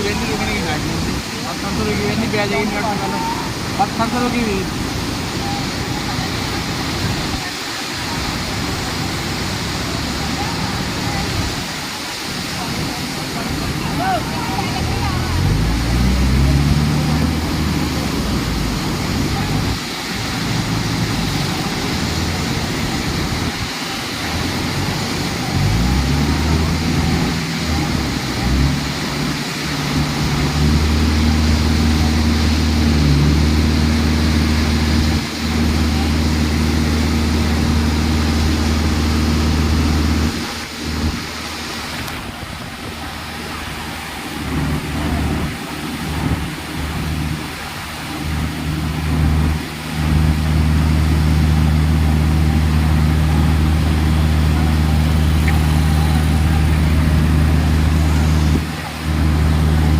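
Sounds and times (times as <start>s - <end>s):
constant rushing noise: 0.0s - 59.9s
heavy engine humming: 0.0s - 59.9s.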